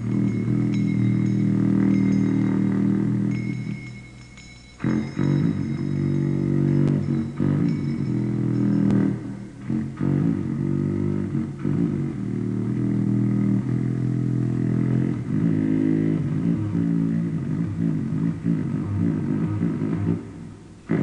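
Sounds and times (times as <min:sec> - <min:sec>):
low buzzing drone: 0:00.0 - 0:21.0.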